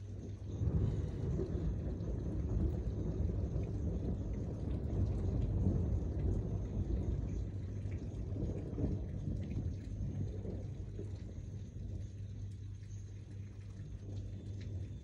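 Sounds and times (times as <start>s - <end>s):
rain falling: 0.0s - 15.0s
thunder rumbling: 0.0s - 15.0s.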